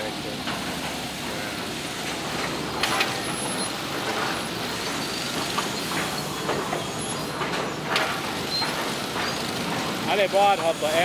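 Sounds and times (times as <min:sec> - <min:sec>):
mill machinery running: 0:00.0 - 0:11.0.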